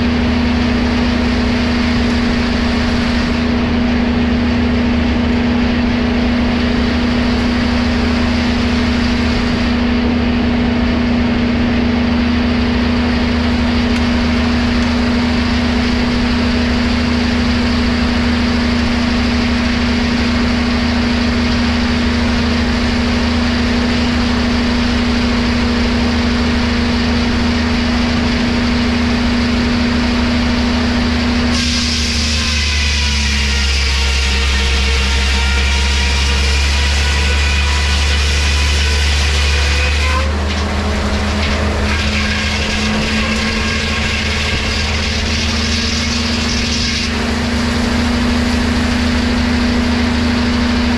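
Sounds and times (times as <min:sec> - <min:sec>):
sawmill machinery running: 0:00.0 - 0:50.9.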